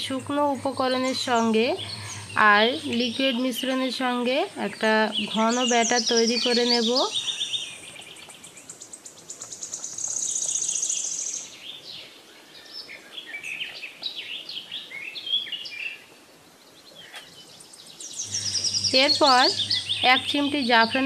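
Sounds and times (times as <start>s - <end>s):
birds chirping and trilling: 0.0s - 16.0s, 16.6s - 21.0s.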